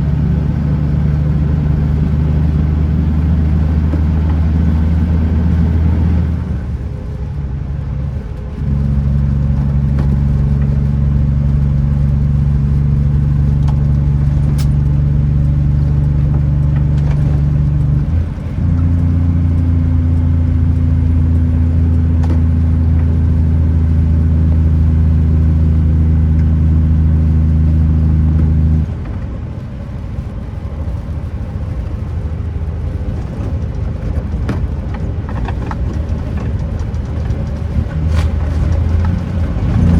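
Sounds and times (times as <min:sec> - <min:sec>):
road rumble: 0:00.0 - 0:39.9
truck diesel engine droning: 0:00.0 - 0:39.9.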